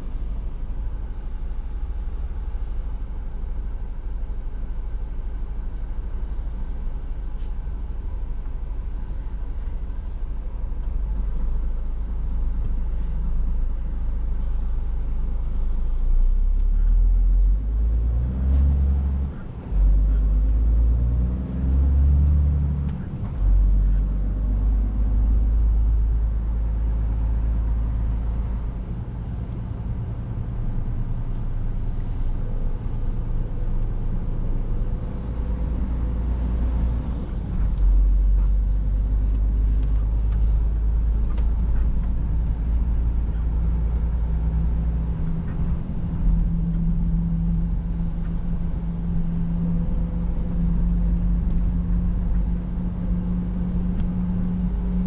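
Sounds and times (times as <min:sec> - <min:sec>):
road noise: 0:00.0 - 0:55.0
truck diesel engine drone: 0:00.0 - 0:55.0.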